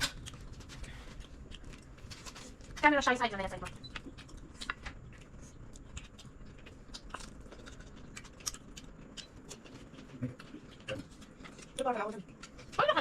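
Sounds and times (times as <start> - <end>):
chewing food: 0.0 - 2.8, 3.5 - 13.0.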